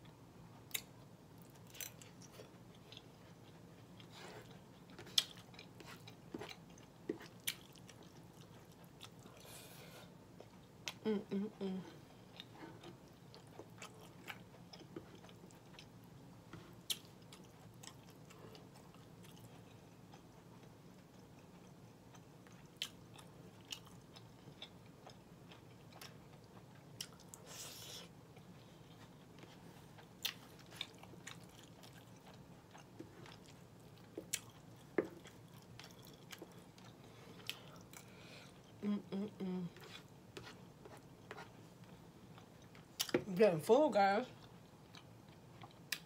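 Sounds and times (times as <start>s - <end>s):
person chewing food: 0.5s - 43.2s, 44.4s - 46.0s.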